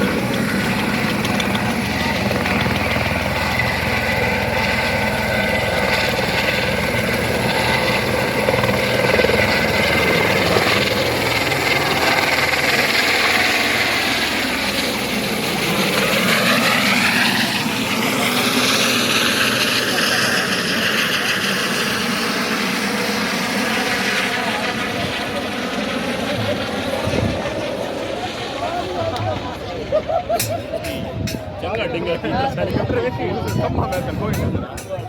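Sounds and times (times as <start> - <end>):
helicopter rotor and engine: 0.0 - 35.0.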